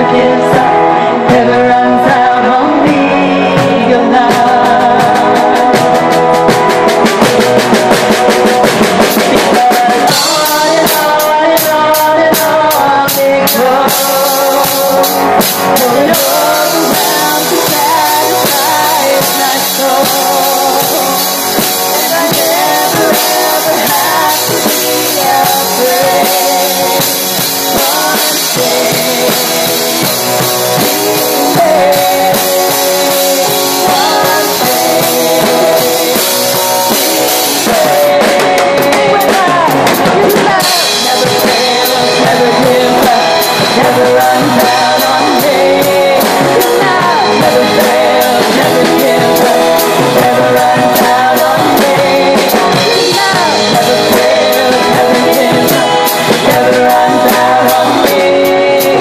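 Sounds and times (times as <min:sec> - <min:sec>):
drum kit and cymbals: 0:00.0 - 0:59.0
worship band playing with singing: 0:00.0 - 0:59.0.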